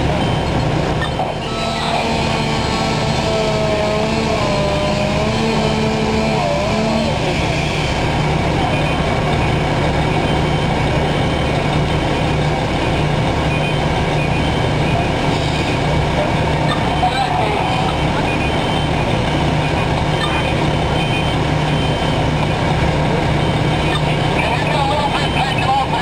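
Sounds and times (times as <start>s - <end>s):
fire engine running: 0.0s - 26.0s.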